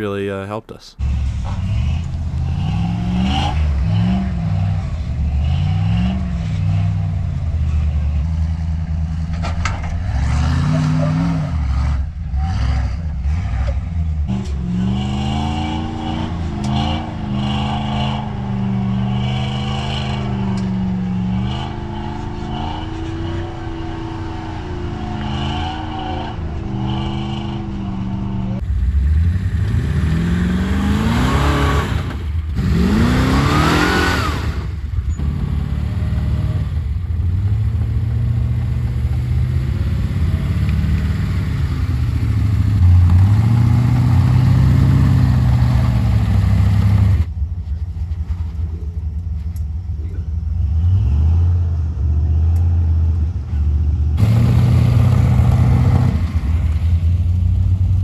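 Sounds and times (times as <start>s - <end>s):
off-road engines revving: 0.0s - 47.3s, 48.8s - 58.0s.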